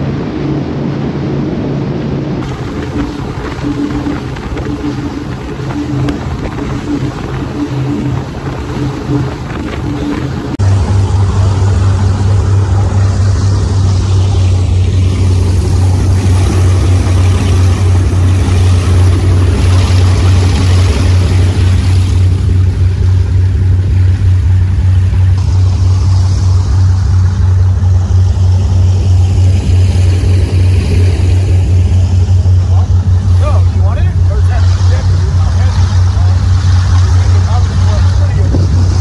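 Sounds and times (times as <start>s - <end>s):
boat engines droning: 0.0s - 39.0s
rushing water: 0.0s - 39.0s
wind: 0.0s - 39.0s.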